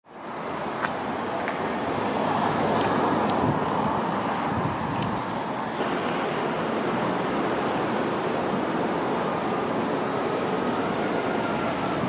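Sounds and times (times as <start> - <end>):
rushing city noise: 0.0 - 12.0.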